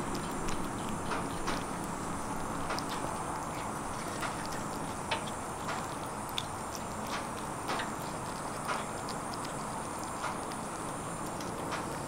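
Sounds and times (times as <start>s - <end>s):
kittens chewing and tearing: 0.0s - 12.0s
steady background hiss: 0.0s - 12.0s.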